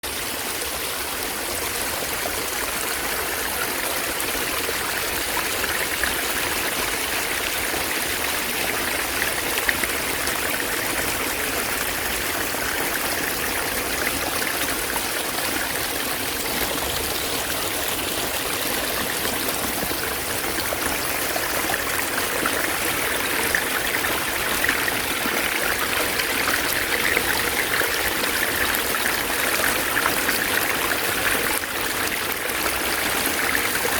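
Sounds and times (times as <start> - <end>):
stream babbling: 0.0 - 33.9.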